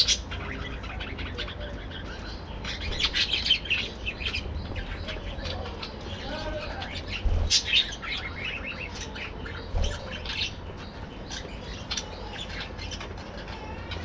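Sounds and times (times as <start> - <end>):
budgerigars chattering: 0.0 - 14.0.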